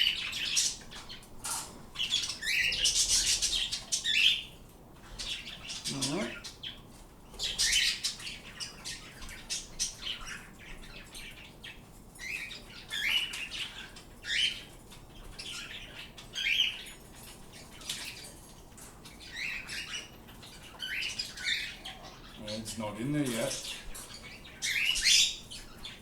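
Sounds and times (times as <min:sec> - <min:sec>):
pet birds chirping: 0:00.0 - 0:26.0.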